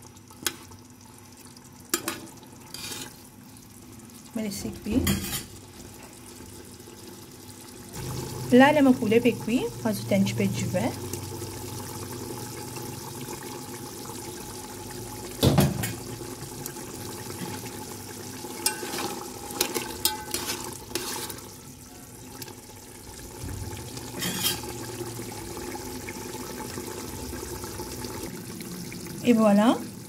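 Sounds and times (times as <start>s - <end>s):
stew bubbling in a pot: 0.0s - 30.0s.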